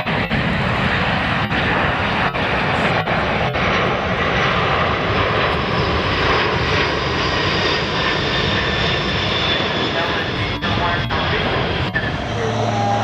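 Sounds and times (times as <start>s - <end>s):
faint high engine whine: 0.0s - 13.0s
jet aircraft flying past: 0.0s - 13.0s.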